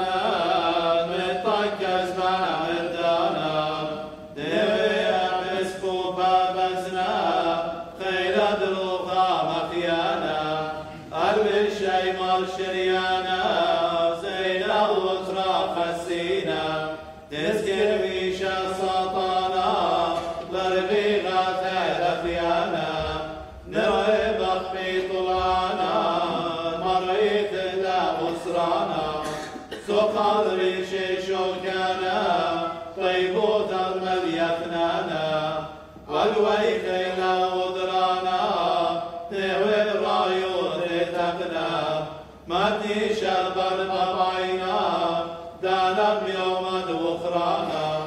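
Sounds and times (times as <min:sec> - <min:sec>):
men chanting a hymn: 0:00.0 - 0:48.0.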